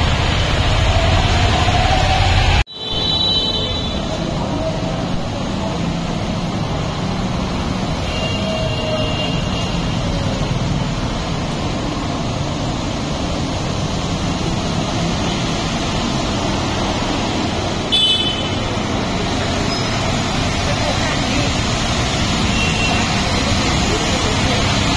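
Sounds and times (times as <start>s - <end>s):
motorcycle traffic: 0.0s - 24.9s.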